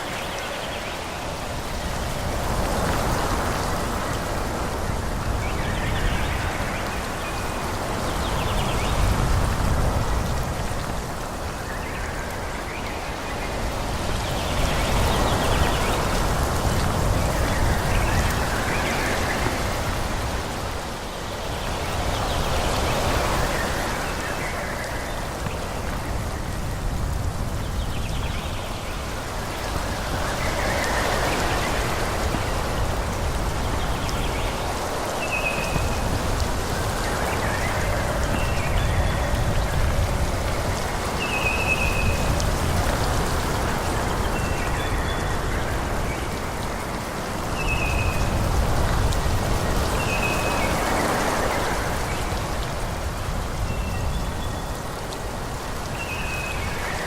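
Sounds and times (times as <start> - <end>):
wind rustling through trees: 0.0 - 57.0.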